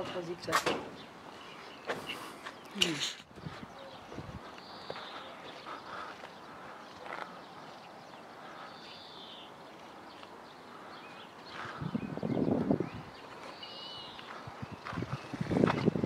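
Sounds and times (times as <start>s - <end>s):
bird call: 1.0s - 12.3s, 12.9s - 15.3s.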